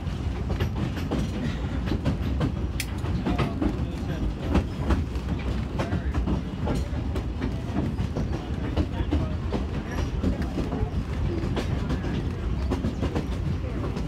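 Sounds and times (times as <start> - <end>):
rail car rumbling: 0.0 - 14.0
wheels clacking on rails: 0.0 - 14.0.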